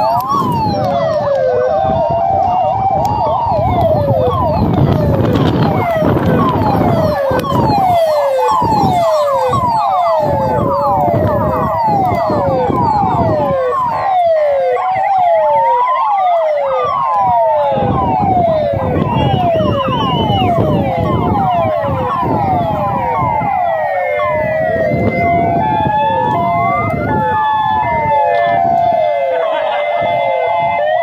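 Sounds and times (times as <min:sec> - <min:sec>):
fire truck sirens: 0:00.0 - 0:31.0
slow rising and falling siren wail: 0:00.0 - 0:31.0.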